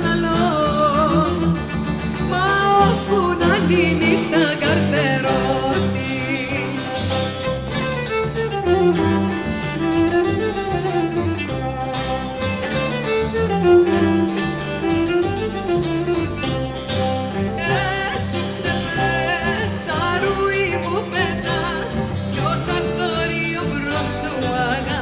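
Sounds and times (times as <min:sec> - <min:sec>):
bass keeping a beat: 0:00.0 - 0:25.0
strummed lute: 0:00.0 - 0:25.0
viola melody: 0:00.0 - 0:25.0.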